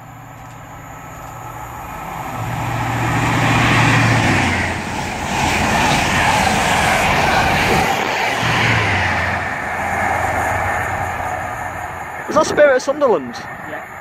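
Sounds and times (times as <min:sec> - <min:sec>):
diesel train engine humming: 0:00.0 - 0:14.0
train wheels and air roaring: 0:00.0 - 0:14.0.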